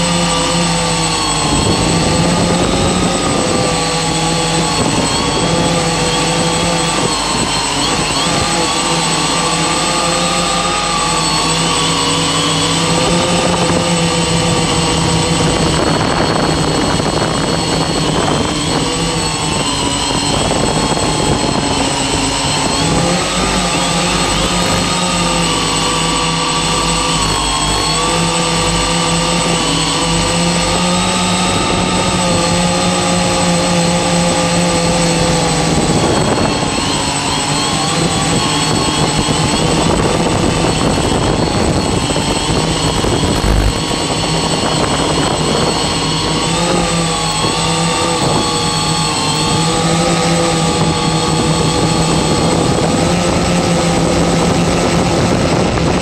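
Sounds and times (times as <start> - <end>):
drone propellers whirring: 0.0 - 55.9.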